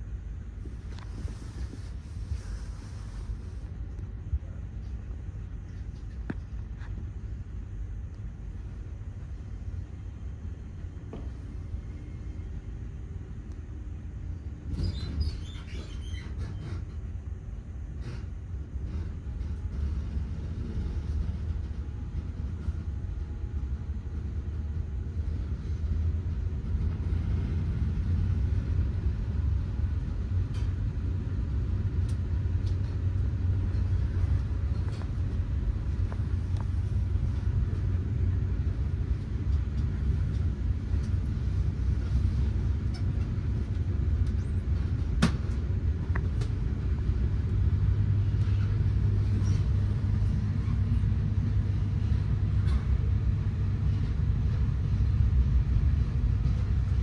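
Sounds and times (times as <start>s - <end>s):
train rumbling inside carriage: 0.0s - 57.0s.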